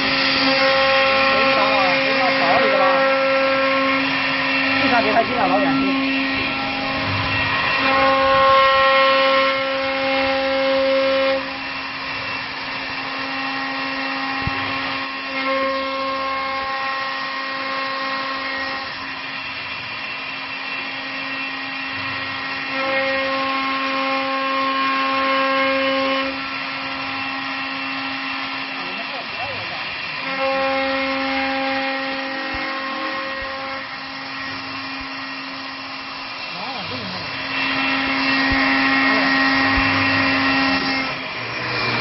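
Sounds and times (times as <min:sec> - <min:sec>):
lathe motor whine: 0:00.0 - 0:42.0.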